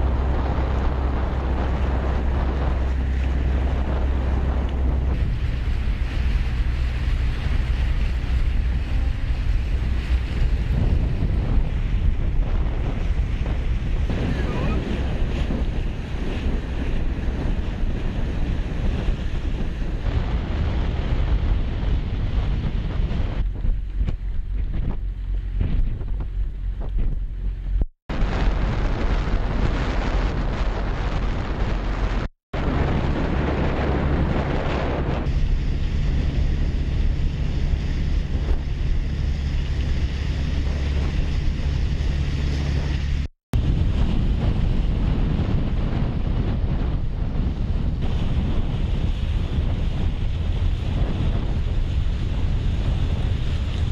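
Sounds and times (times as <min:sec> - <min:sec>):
choppy sea water splashing: 0:00.0 - 0:53.9
wind buffeting microphone: 0:00.0 - 0:53.9.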